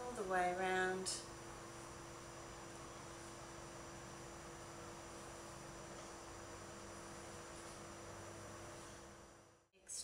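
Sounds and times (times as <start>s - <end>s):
faint steady hum: 0.0s - 10.0s
low hiss: 0.0s - 10.0s.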